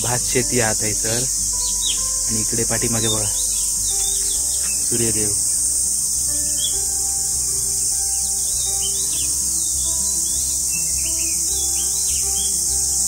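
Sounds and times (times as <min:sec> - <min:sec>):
birds chirping: 0:00.0 - 0:13.0
insect chorus: 0:00.0 - 0:13.0.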